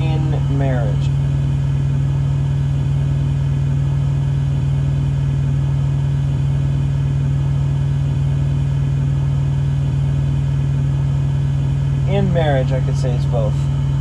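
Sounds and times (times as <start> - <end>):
loud low motor hum: 0.0 - 14.0.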